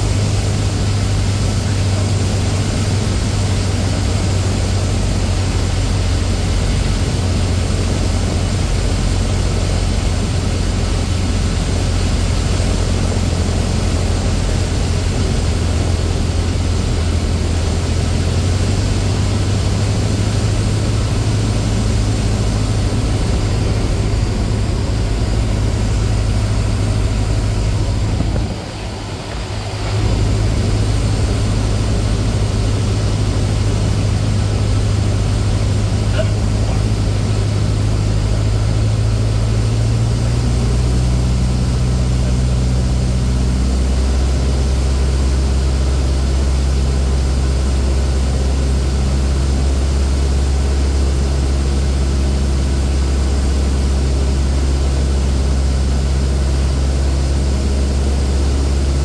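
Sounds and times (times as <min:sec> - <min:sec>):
propeller rushing noise: 0:00.0 - 0:59.0
small plane engine drone: 0:00.0 - 0:59.0.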